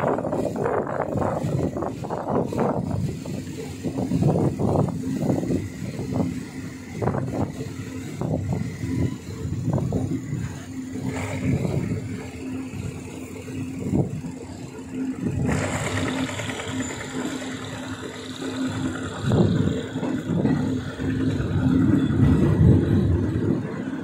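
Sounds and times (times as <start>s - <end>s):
rush of noise: 0.0s - 24.0s
steady hum: 0.0s - 24.0s
train carriage rumbling on rails: 0.0s - 24.0s.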